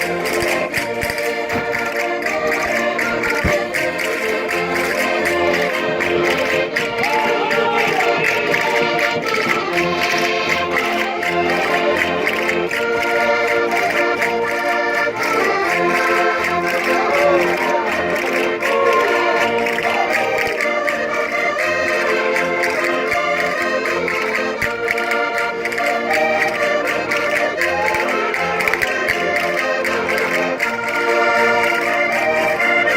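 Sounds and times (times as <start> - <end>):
concertinas playing folk dance tune: 0.0 - 32.9.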